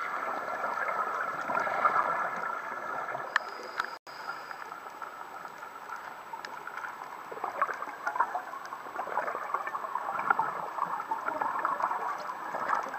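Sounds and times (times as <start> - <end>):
underwater bubbling and crackling: 0.0 - 12.9.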